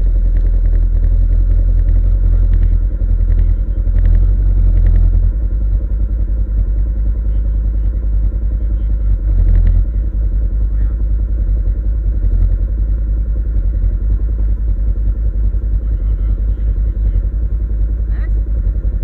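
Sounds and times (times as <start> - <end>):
off-road vehicle engine rumbling: 0.0 - 19.0.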